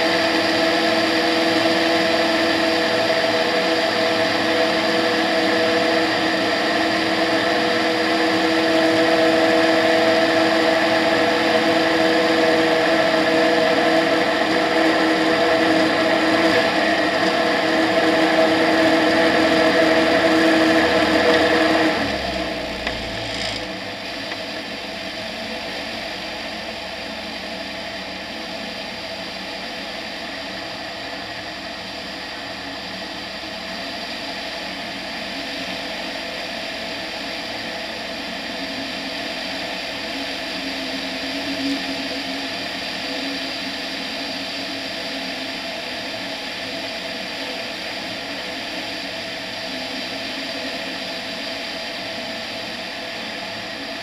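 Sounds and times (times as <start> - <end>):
light aircraft engine and propeller: 0.0 - 54.0.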